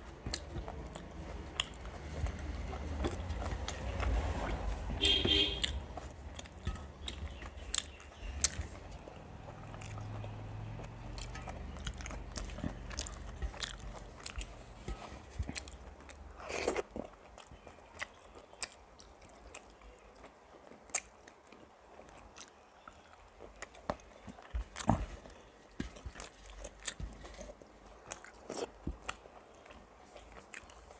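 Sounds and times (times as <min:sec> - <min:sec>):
person chewing food: 0:00.0 - 0:30.9.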